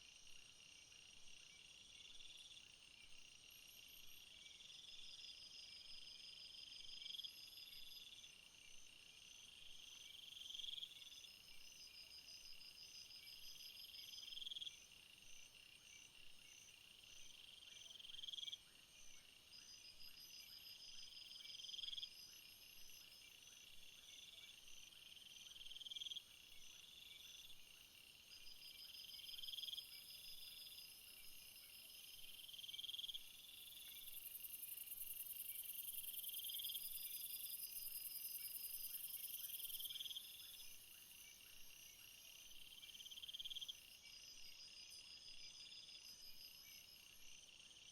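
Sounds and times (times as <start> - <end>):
crickets chirping: 0.1 - 47.9.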